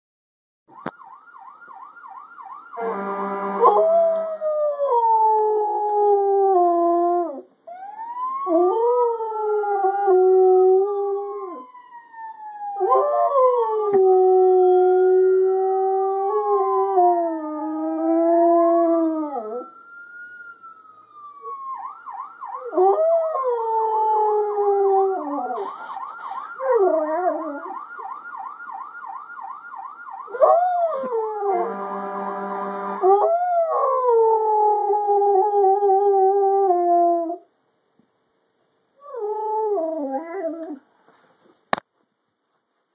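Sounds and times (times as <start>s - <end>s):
siren rising and falling: 0.7s - 6.9s, 7.7s - 36.9s.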